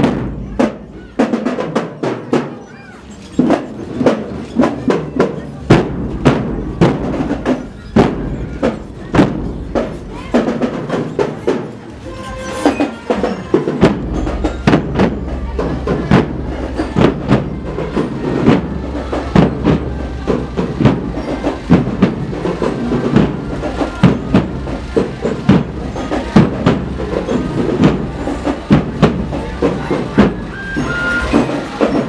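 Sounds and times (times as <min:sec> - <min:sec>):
marching drum strokes: 0:00.0 - 0:32.0
road train engine rumble: 0:00.0 - 0:32.0.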